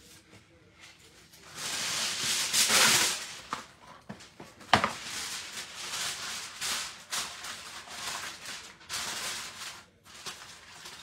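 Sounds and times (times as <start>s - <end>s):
aluminium foil crinkling: 1.0s - 11.0s.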